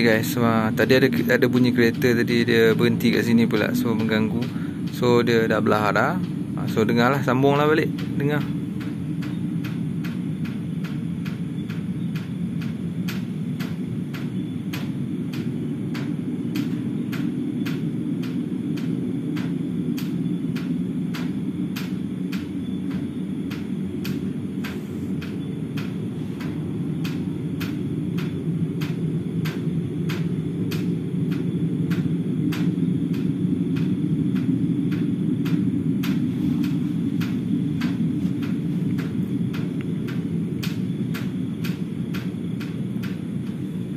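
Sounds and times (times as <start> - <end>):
low droning rumble: 0.0 - 43.9
rain drips ticking on roof: 0.0 - 43.9.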